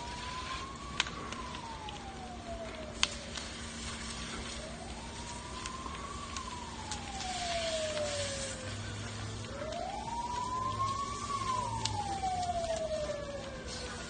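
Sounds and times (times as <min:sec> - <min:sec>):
emergency siren wailing: 0:00.0 - 0:14.0
sharp cracks: 0:00.0 - 0:14.0.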